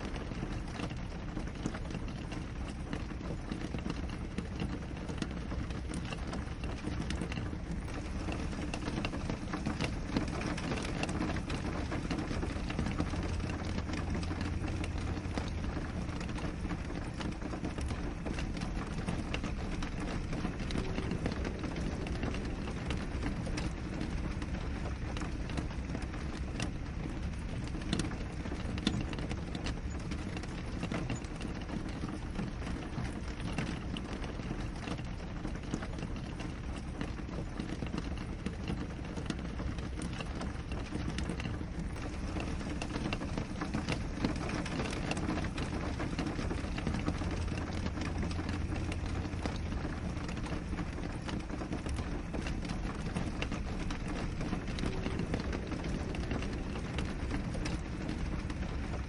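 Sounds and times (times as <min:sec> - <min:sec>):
rain against a window: 0:00.0 - 0:59.0.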